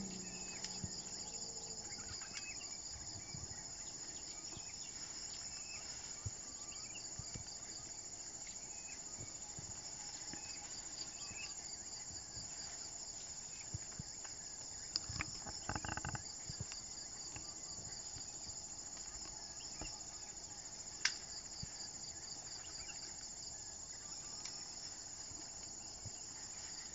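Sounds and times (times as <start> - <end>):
insect chorus trilling: 0.0 - 26.9.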